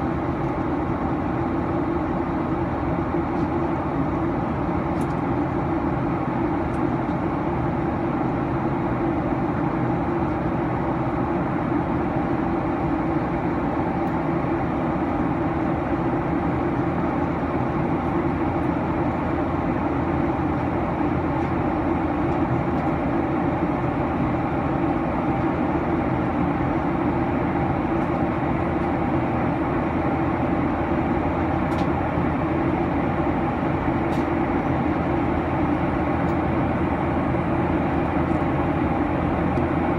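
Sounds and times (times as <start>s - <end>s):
airliner cabin engine drone: 0.0s - 39.9s.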